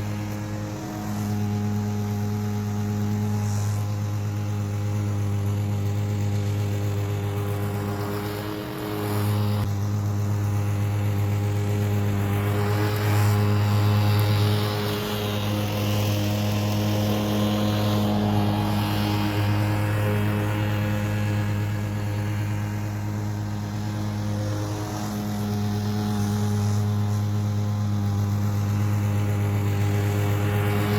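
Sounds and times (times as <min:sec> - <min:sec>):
push mower engine running: 0:00.0 - 0:30.9.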